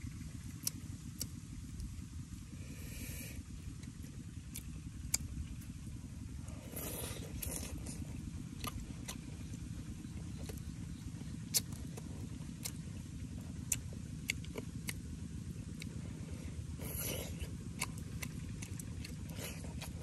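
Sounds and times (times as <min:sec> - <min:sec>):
low rumble: 0:00.0 - 0:20.0
chewing and lip smacks: 0:00.4 - 0:02.0, 0:03.6 - 0:20.0.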